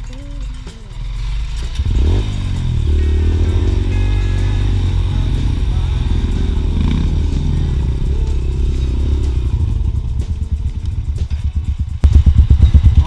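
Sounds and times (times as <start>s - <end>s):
dirt bike engine at low revs: 0.8s - 13.0s.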